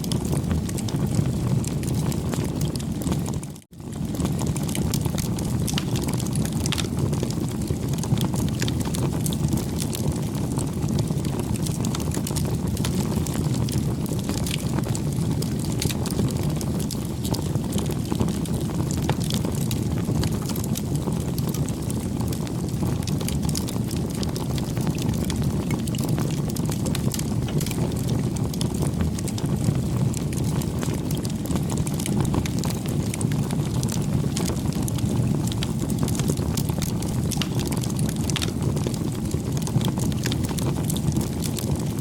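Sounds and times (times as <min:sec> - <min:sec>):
campfire crackling and popping: 0:00.0 - 0:42.0.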